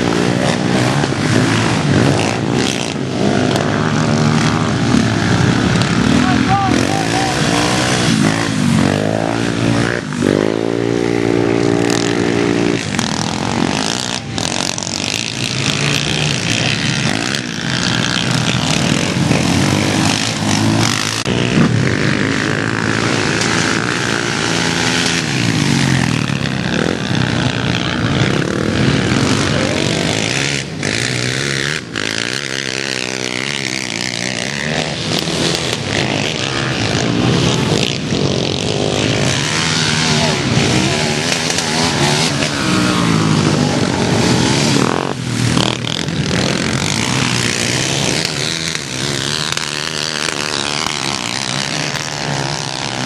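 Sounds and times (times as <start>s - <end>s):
quad engines revving: 0.0s - 53.0s.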